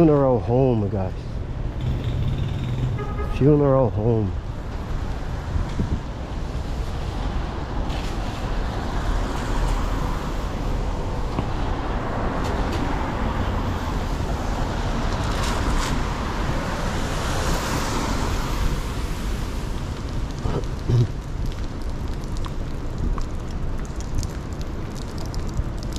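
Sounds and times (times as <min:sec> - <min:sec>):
traffic on wet road: 0:00.0 - 0:25.9.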